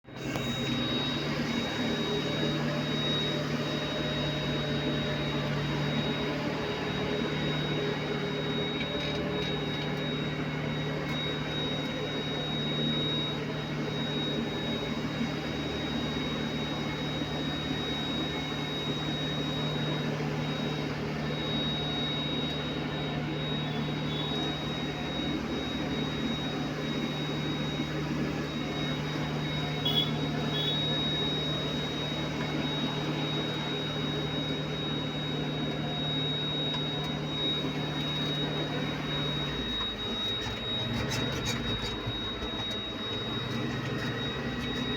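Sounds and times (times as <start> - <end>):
motor humming with high whine: 0.0 - 44.9.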